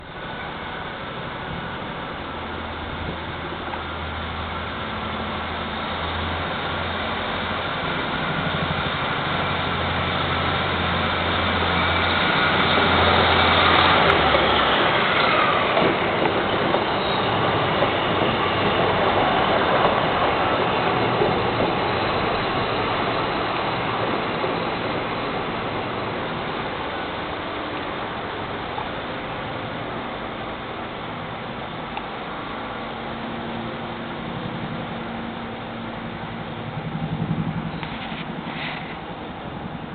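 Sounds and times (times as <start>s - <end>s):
diesel train engine hum: 0.0s - 39.9s
wheel-on-rail noise: 0.0s - 39.9s.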